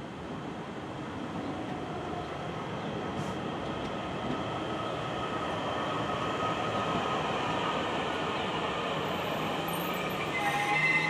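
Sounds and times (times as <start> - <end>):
electric train rolling past: 0.2 - 11.0.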